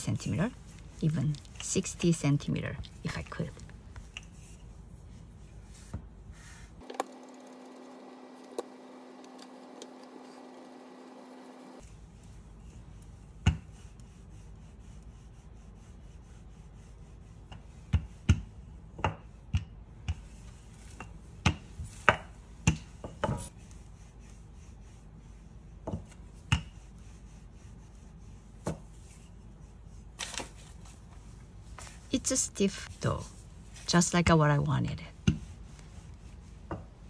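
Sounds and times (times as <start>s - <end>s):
rolling pin rubbing dough: 0.0s - 19.5s, 20.1s - 30.2s, 35.2s - 37.0s.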